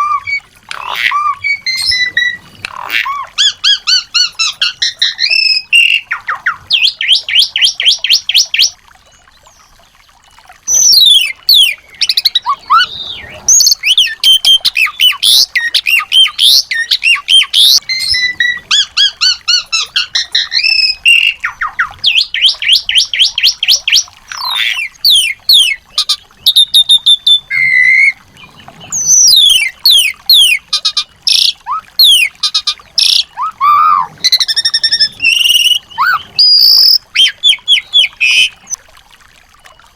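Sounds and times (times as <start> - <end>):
small songbirds singing: 0.0 - 38.8.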